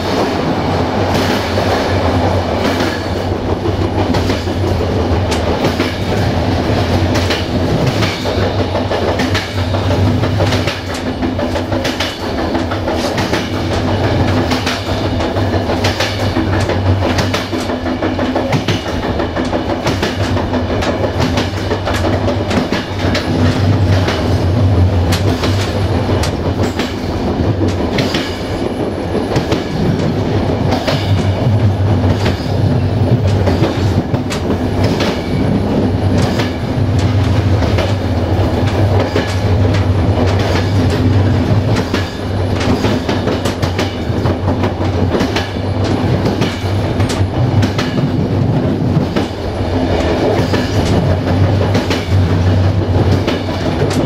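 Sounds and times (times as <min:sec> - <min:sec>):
low rumble of train: 0:00.0 - 0:54.0
train wheels clicking over rail joints: 0:00.0 - 0:54.0.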